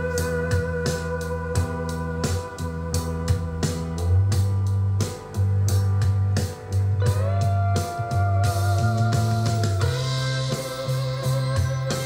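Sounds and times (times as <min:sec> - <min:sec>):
background music with bass and beat: 0:00.0 - 0:12.0.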